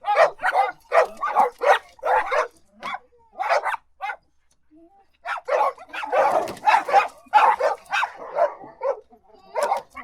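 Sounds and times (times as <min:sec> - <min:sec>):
dog barking: 0:00.0 - 0:04.2, 0:05.3 - 0:10.0.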